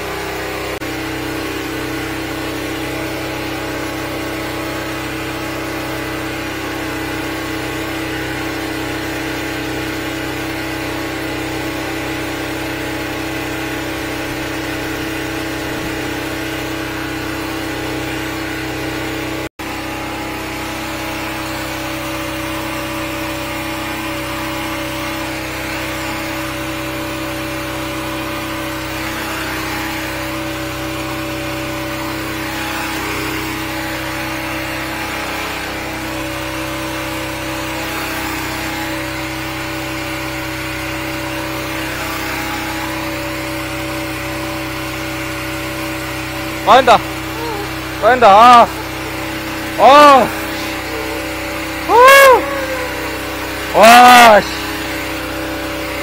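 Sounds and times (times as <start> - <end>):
sewer jetter engine running: 0.0 - 56.0.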